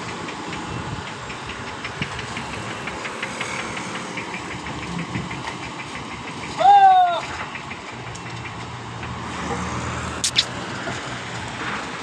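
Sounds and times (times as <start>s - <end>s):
diesel engine idling: 0.0s - 10.1s.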